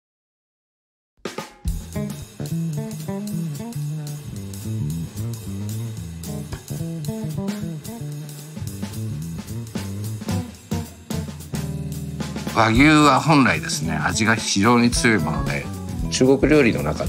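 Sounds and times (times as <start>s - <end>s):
guitar-led instrumental music: 1.4s - 17.0s.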